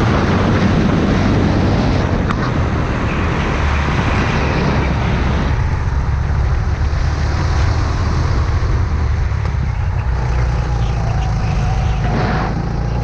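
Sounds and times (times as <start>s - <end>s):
go-kart engine drone: 0.0s - 13.0s
wind rushing over microphone: 0.0s - 13.0s.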